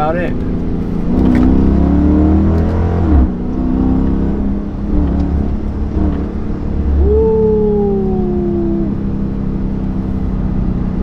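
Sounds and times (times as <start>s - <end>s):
car exhaust accelerating: 0.0s - 11.0s.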